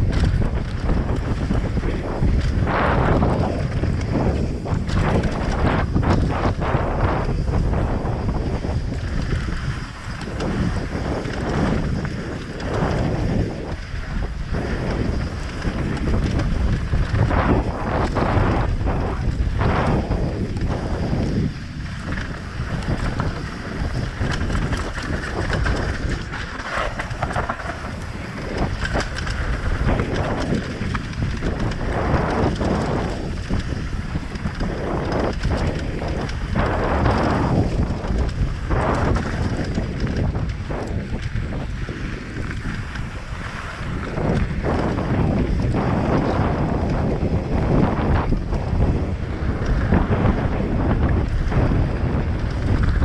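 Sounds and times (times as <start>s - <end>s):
low rumble: 0.0s - 53.0s
small rattles and clicks: 0.0s - 53.0s
wind buffeting microphone: 0.0s - 53.0s.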